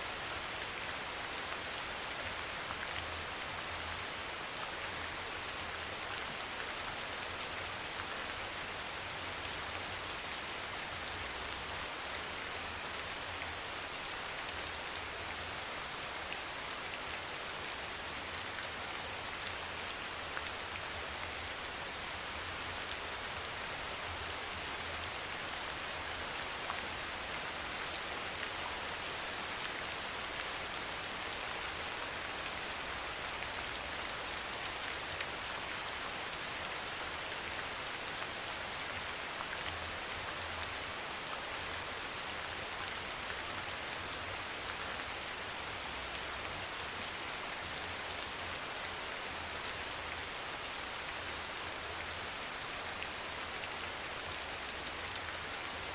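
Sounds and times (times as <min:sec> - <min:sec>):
soft rain falling: 0:00.0 - 0:55.9.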